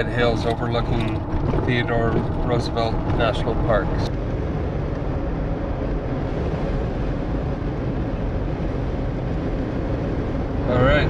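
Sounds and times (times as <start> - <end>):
vehicle driving on gravel: 0.0 - 11.0.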